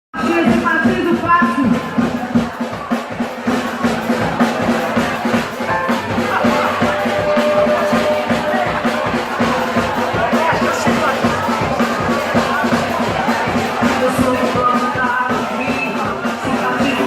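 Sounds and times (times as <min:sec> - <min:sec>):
live band playing: 0:00.2 - 0:17.0.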